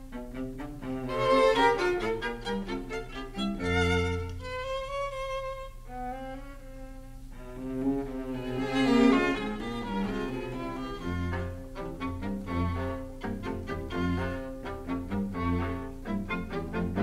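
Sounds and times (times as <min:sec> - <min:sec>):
violin playing slow melody: 0:00.0 - 0:17.0.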